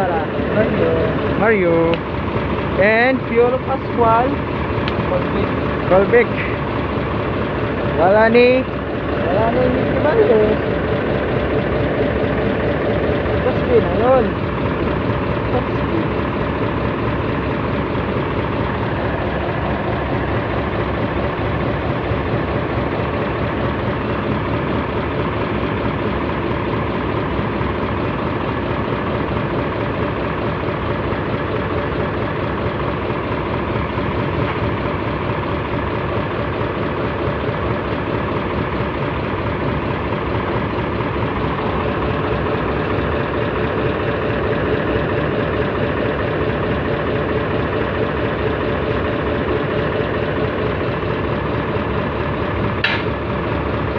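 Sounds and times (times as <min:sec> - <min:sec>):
diesel engine idling: 0:00.0 - 0:53.9.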